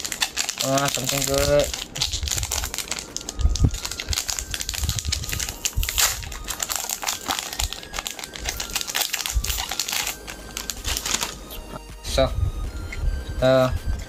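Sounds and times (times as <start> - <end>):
foil wrapper crinkling: 0.0 - 11.7.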